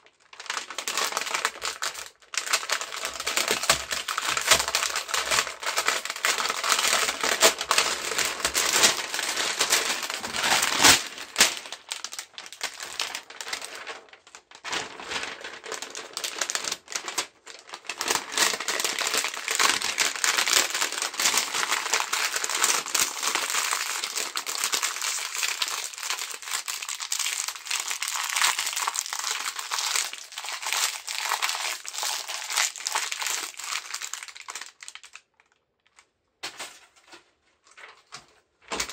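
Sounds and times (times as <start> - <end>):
plastic sheets crinkling: 0.0 - 38.9.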